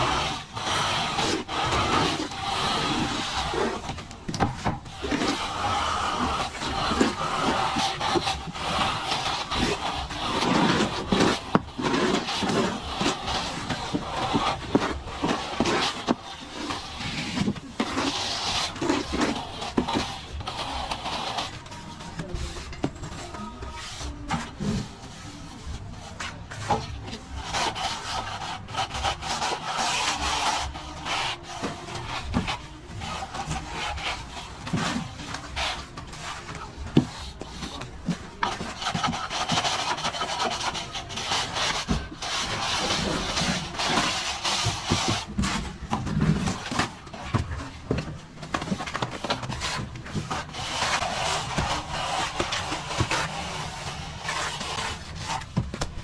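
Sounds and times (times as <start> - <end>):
trowel scraping plaster: 0.0 - 56.0.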